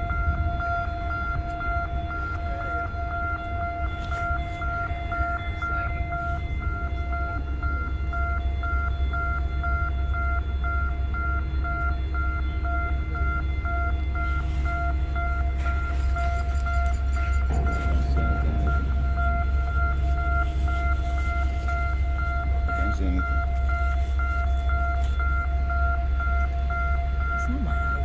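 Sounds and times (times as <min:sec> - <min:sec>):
low rumble: 0:00.0 - 0:10.1, 0:11.1 - 0:28.0
rapid high electronic beeps: 0:00.0 - 0:28.0.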